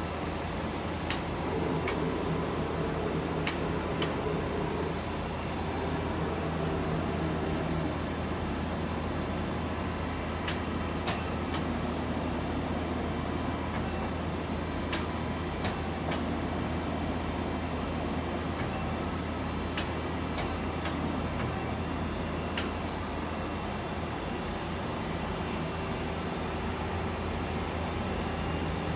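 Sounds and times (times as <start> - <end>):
machine low hum: 0.0 - 28.9.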